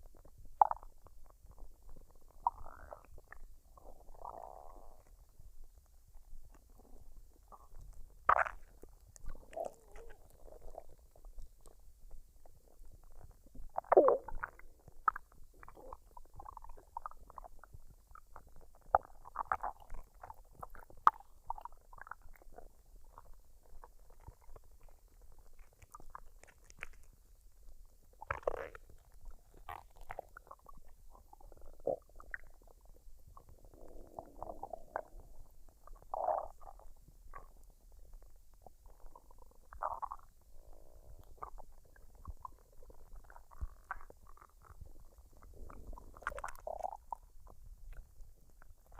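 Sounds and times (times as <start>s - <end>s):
stomach gurgling and rumbling: 0.0s - 48.9s
stomach popping: 0.0s - 48.9s.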